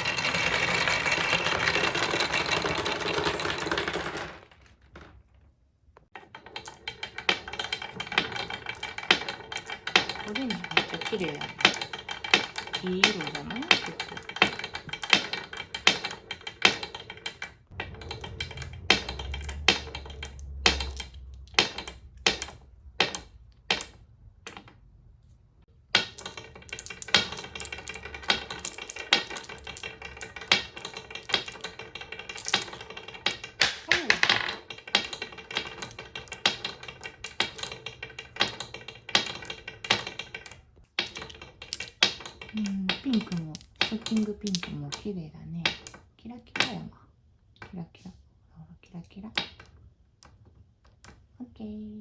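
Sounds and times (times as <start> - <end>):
marbles clattering down wooden run: 0.0 - 5.2, 6.2 - 24.7, 25.8 - 46.0.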